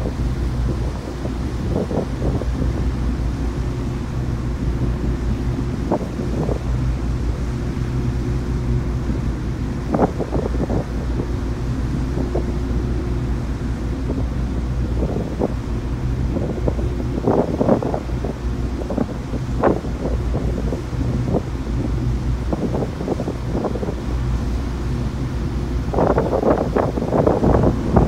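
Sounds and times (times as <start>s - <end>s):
ship engines droning: 0.0s - 28.0s
wind buffeting microphone: 0.0s - 28.0s.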